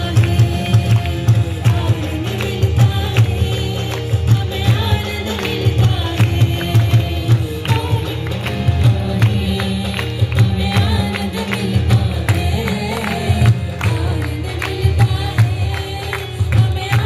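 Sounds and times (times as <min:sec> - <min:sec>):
percussion beat: 0:00.0 - 0:17.0.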